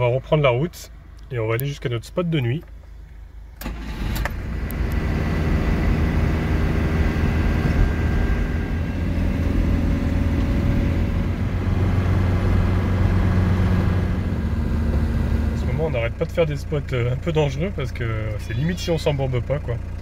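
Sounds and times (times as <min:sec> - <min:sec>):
road noise: 0:00.0 - 0:20.0
van engine running: 0:00.0 - 0:20.0.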